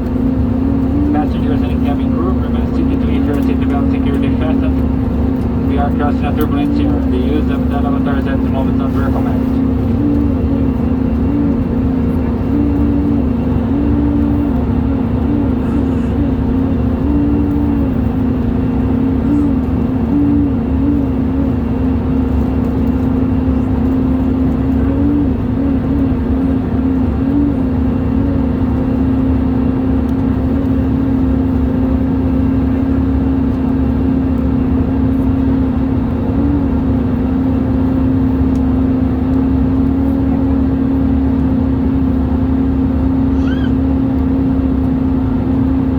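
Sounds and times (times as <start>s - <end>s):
engine and airflow rumble: 0.0s - 45.9s
low droning tone: 0.0s - 45.9s.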